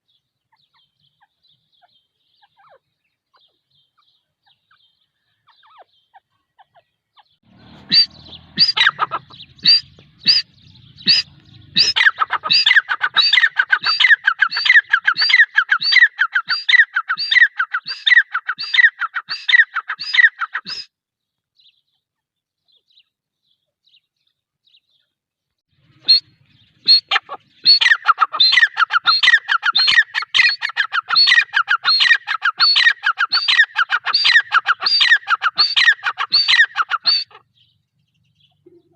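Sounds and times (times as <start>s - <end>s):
francolin calling: 0.5s - 20.9s, 25.9s - 38.9s.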